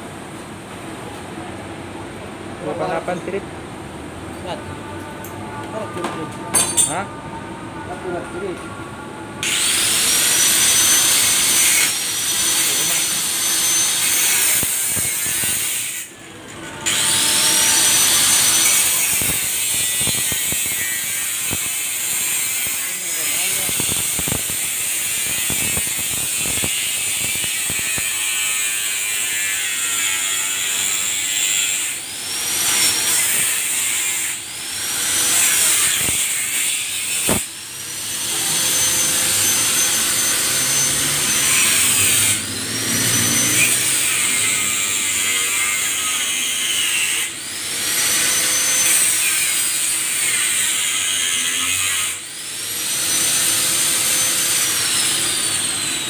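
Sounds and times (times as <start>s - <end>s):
angle grinder grinding steel: 9.4s - 56.0s.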